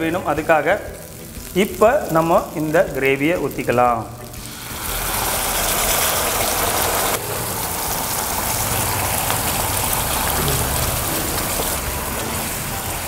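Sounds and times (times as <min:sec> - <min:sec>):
gravy sizzling in hot fat: 0:00.0 - 0:13.0.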